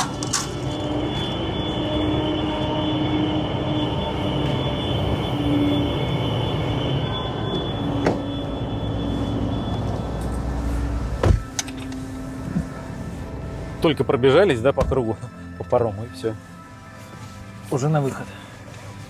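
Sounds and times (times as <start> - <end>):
ship engines rumbling: 0.0 - 17.0
faint high whine: 0.0 - 19.0.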